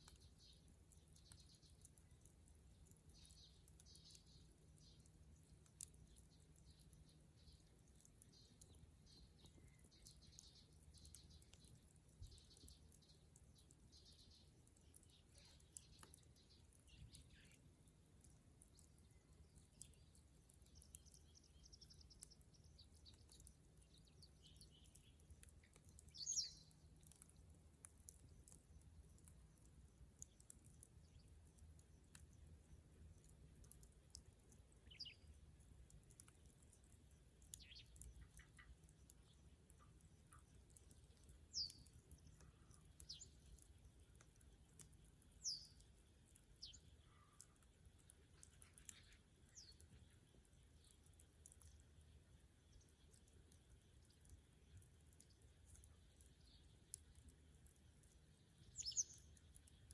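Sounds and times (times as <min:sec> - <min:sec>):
bonfire crackling: 0:00.0 - 0:59.9
small birds chirping: 0:00.0 - 0:59.9.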